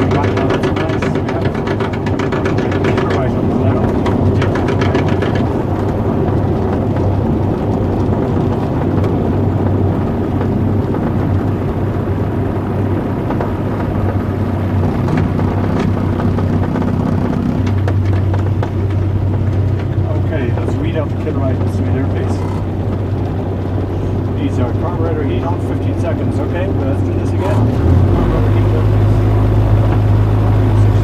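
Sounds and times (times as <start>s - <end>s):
aircraft engine running: 0.0s - 31.0s.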